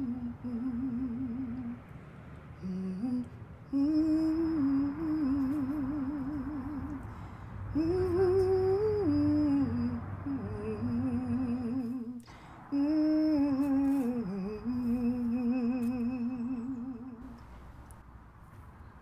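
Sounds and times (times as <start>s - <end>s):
person humming a melody: 0.0s - 1.8s, 2.6s - 7.1s, 7.8s - 17.4s.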